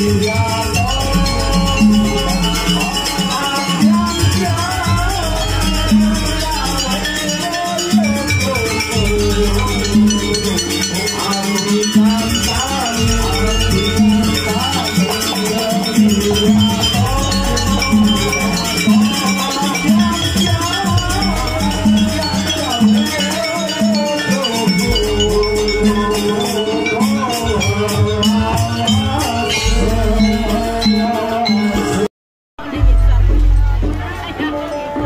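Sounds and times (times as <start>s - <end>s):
wavering melody line: 0.0s - 32.1s
repeated pitched beats: 0.0s - 34.5s
rattling percussion: 0.0s - 35.0s.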